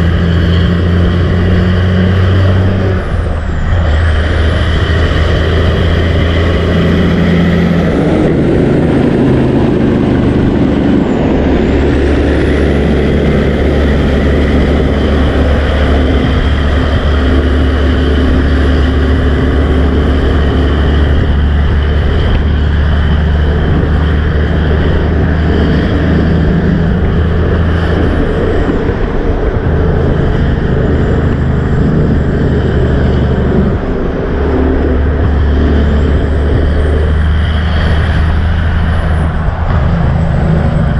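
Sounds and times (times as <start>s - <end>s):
tyres on road: 0.0s - 40.9s
vehicle engines running: 0.0s - 40.9s.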